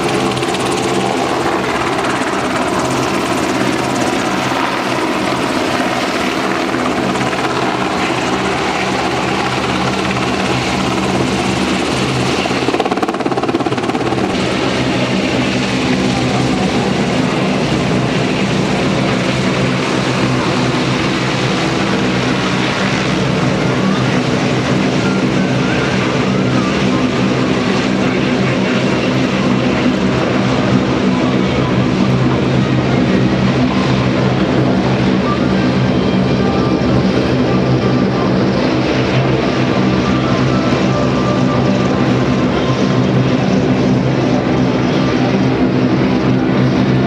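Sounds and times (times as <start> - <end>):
helicopter rotor and engine noise: 0.0 - 47.0.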